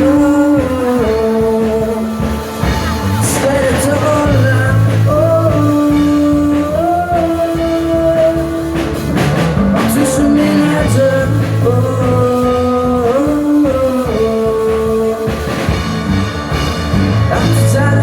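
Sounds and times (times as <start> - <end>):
live rock band playing: 0.0 - 18.0
singer holding long notes: 0.0 - 18.0.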